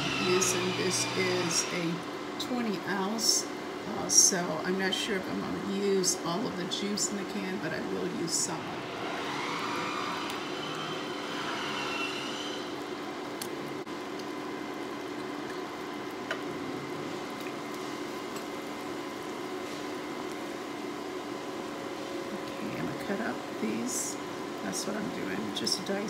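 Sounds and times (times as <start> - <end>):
pot simmering with bubbling hiss: 0.0 - 26.0.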